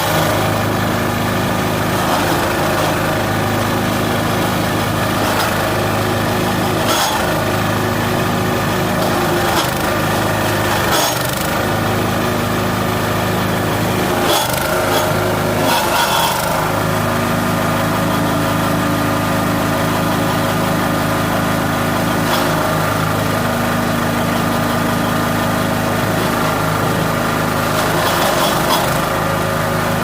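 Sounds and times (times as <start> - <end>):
bursts of chipping noise: 0.0 - 30.0
wood chipper engine running: 0.0 - 30.0.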